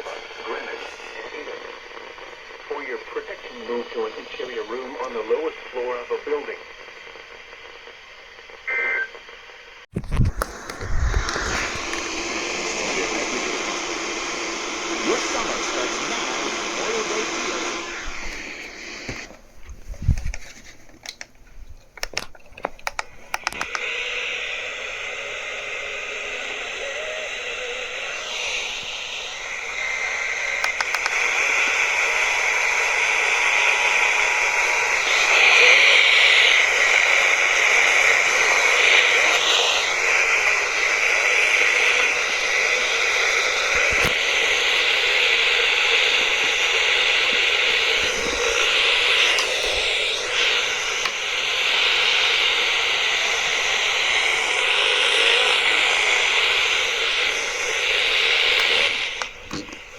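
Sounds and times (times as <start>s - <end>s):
radio static hiss: 0.0s - 21.0s, 21.9s - 59.9s
crackling clicks: 0.0s - 59.9s.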